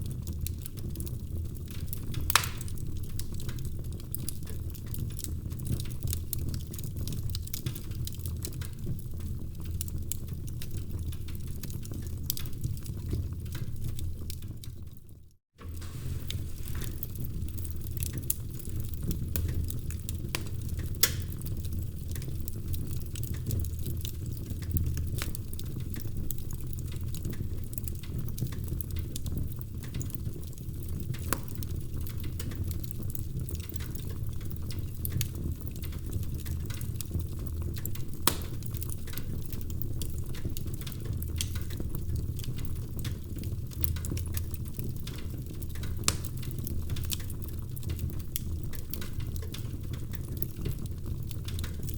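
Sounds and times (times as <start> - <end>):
flames rumbling: 0.0 - 51.9
wood fire snapping and popping: 0.0 - 51.9.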